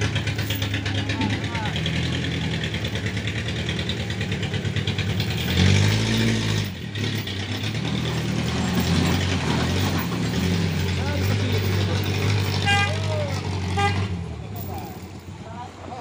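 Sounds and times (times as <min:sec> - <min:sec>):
pickup truck engine revving: 0:00.0 - 0:15.2.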